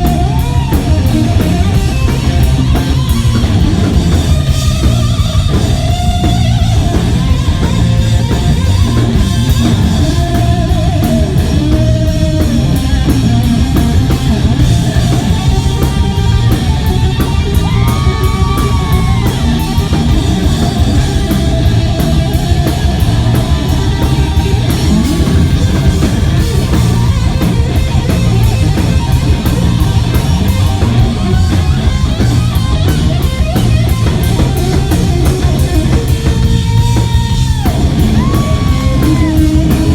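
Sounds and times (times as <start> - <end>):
distorted electric guitar: 0.0 - 39.9
hard rock band playing: 0.0 - 39.9.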